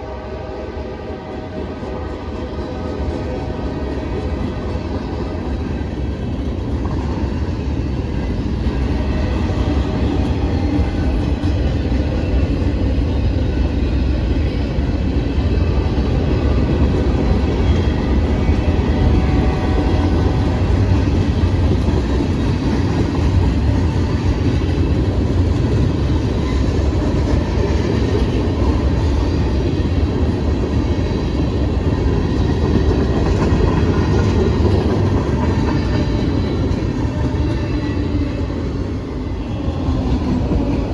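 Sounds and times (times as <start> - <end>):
freight train rumbling on rails: 0.0 - 40.9.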